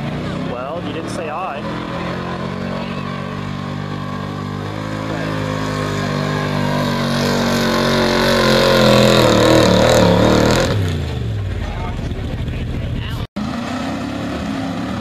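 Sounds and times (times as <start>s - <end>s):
truck engine revving high: 0.0s - 15.0s.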